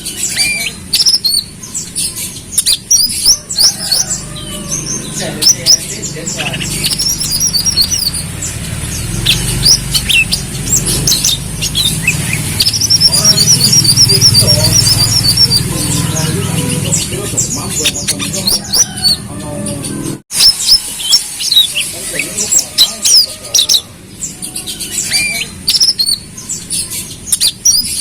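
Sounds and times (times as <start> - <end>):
sunbird twittering song: 0.0 - 28.0.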